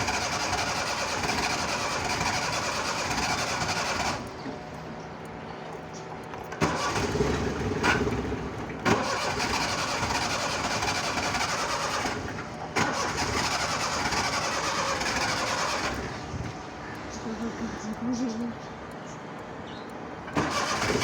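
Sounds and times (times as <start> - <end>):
car engine cranking: 0.0 - 4.8, 6.3 - 18.5, 19.7 - 21.0.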